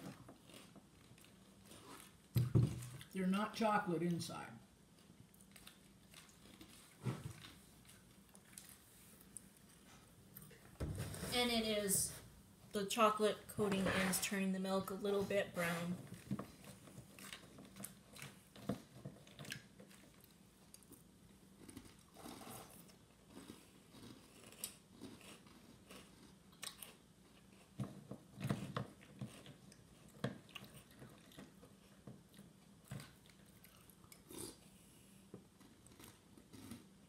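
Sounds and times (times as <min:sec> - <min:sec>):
faint chewing of crunchy cereal: 0:00.0 - 0:03.2, 0:04.0 - 0:10.8, 0:16.0 - 0:37.0.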